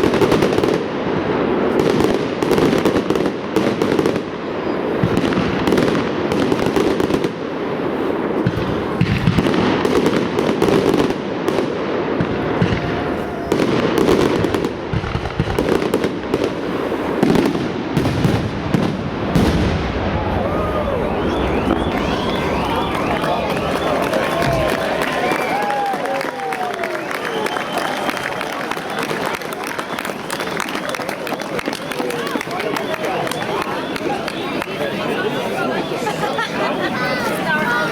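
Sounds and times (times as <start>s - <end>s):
fireworks bursting and crackling: 0.0s - 37.9s.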